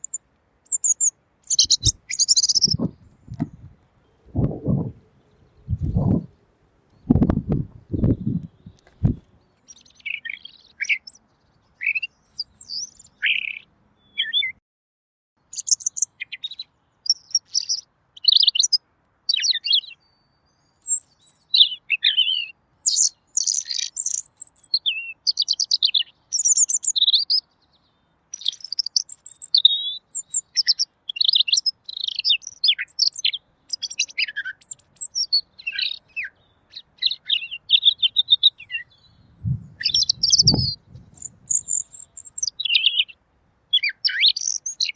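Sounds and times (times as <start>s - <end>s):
bird singing chirps and trills: 0.0s - 14.6s, 15.4s - 44.9s.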